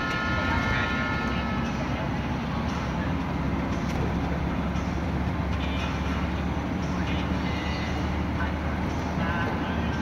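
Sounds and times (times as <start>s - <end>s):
faint indistinct voices: 0.0s - 10.0s
vehicle road rumble: 0.0s - 10.0s.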